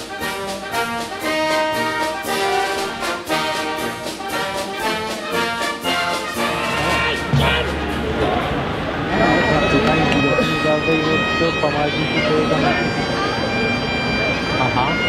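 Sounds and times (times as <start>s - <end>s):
brass ensemble playing: 0.0s - 15.0s.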